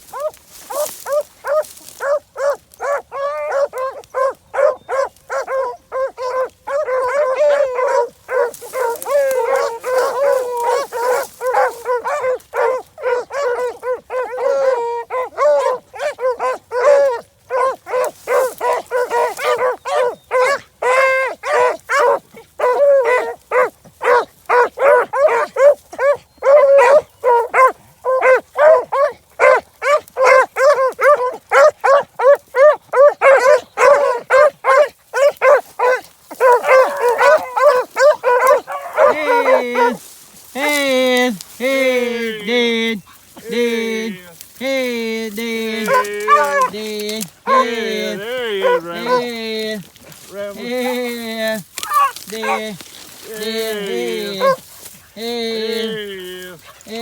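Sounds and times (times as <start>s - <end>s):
hounds baying and barking: 0.0s - 57.0s.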